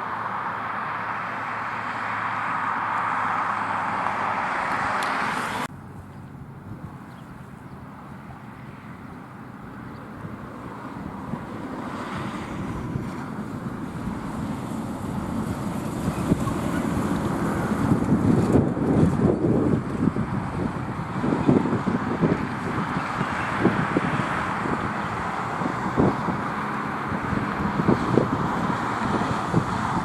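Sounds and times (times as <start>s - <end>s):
road traffic passing: 0.0s - 30.0s
wind on microphone: 2.1s - 30.0s.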